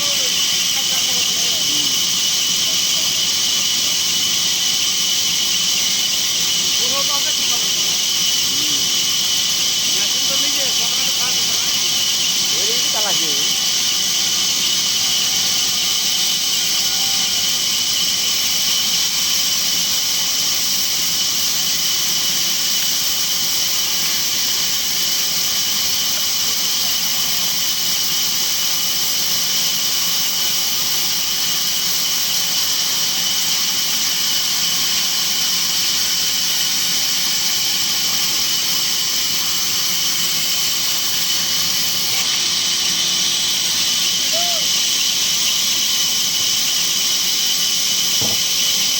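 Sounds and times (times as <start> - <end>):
saw cutting wood: 0.0 - 48.9.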